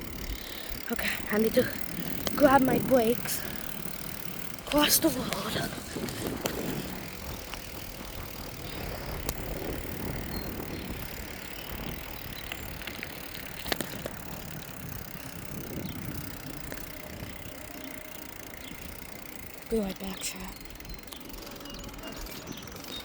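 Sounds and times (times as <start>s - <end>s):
bike clicks and knocks: 0.0s - 23.0s
rumble of bicycle tyres: 0.0s - 23.0s.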